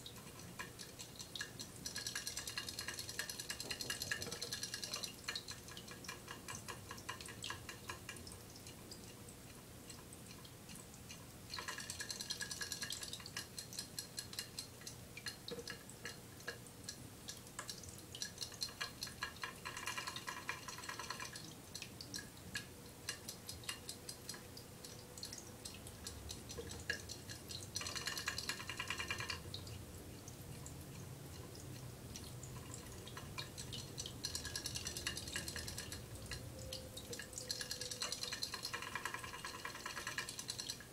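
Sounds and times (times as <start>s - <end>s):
fountain water trickling and dripping: 0.0s - 40.9s.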